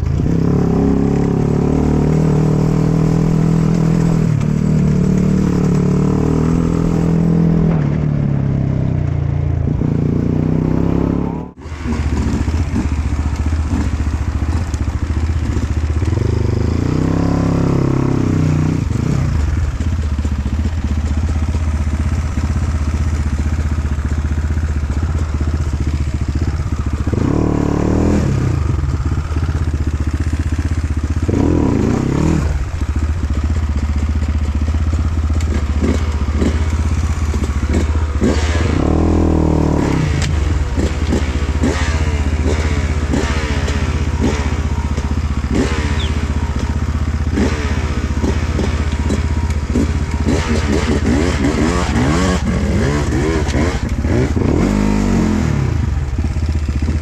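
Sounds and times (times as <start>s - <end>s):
dirt bike engine revving: 0.0s - 9.0s, 9.6s - 57.0s.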